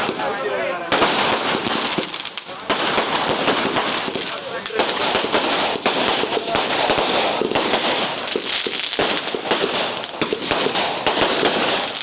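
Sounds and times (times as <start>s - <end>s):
firecrackers going off: 0.0s - 12.0s.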